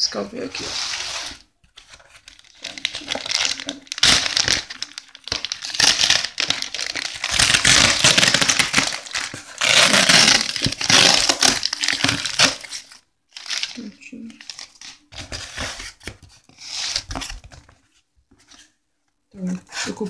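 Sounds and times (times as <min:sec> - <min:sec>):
plastic packing material crinkling: 0:00.4 - 0:17.8.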